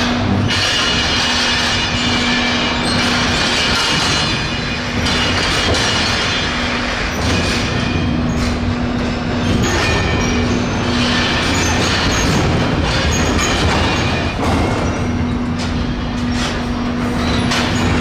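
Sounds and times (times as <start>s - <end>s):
steel wheels squealing on rails: 0.0s - 18.0s.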